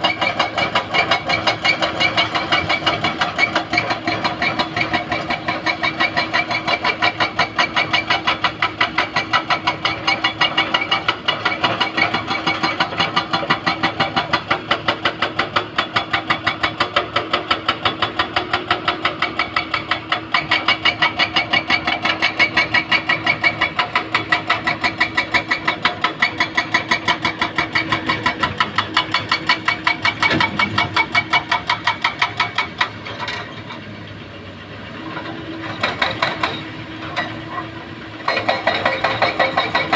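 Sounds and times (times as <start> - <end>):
excavator diesel engine pulsing: 0.0 - 39.9.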